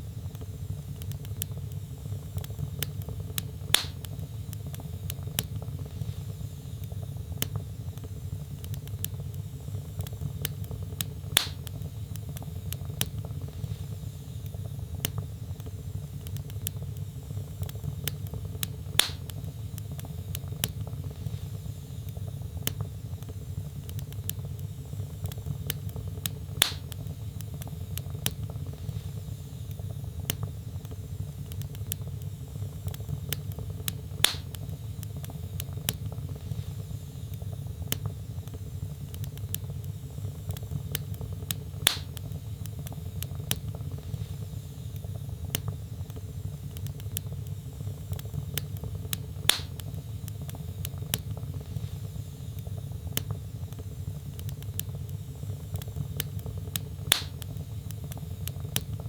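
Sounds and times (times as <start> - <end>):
logs crackling in a fireplace: 0.0 - 59.0
sharp fire pops: 0.3 - 59.0.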